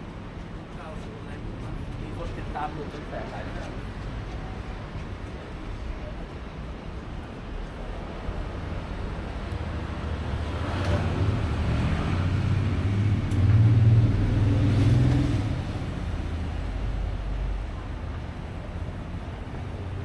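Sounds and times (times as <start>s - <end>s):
street background noise: 0.0s - 20.0s
vehicle engine rumble passing: 1.1s - 20.0s.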